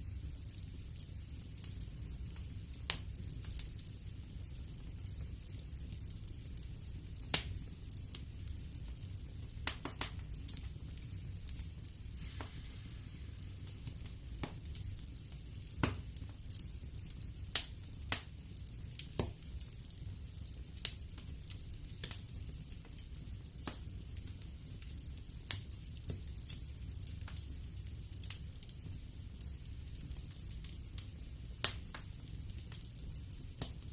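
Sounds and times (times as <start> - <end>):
fire crackling and popping: 0.0 - 33.9
wood fire rumble: 0.0 - 33.9.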